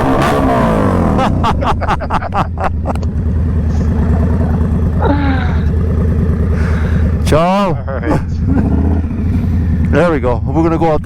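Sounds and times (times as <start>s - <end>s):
exhaust pops and crackles: 0.0s - 11.0s
motorcycle engines idling: 0.0s - 11.0s.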